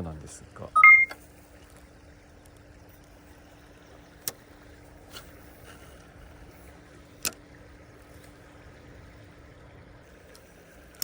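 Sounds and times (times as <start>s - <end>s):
outdoor background hum: 0.0s - 11.0s.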